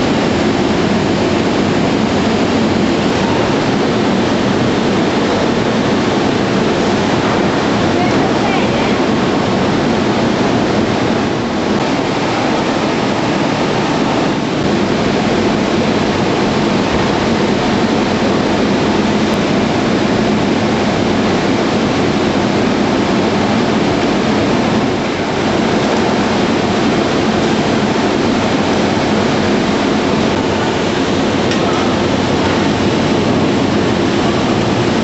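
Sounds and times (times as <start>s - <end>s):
woodworking machinery roaring: 0.0s - 35.0s.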